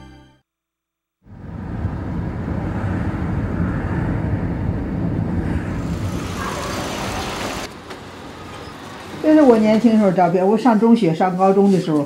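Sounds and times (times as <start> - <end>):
road traffic: 1.3 - 12.0.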